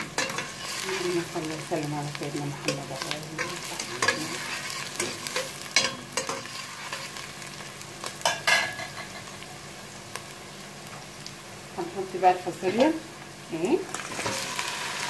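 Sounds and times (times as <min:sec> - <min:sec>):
onions sizzling in a pot: 0:00.0 - 0:15.0.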